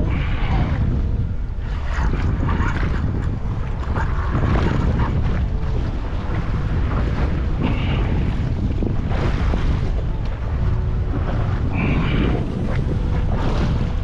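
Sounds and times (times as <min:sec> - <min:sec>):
water washing against boat: 0:00.0 - 0:14.0
wind buffeting microphone: 0:00.0 - 0:14.0.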